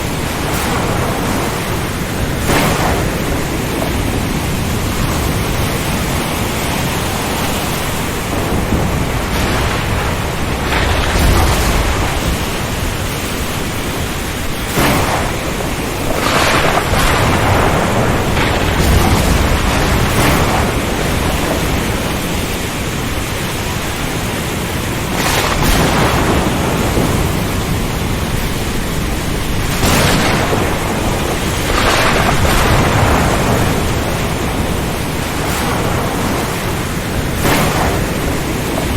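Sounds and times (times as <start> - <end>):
deep rolls of thunder: 0.0 - 38.9
heavy surf breaking: 0.0 - 38.9
rushing wind: 0.0 - 38.9.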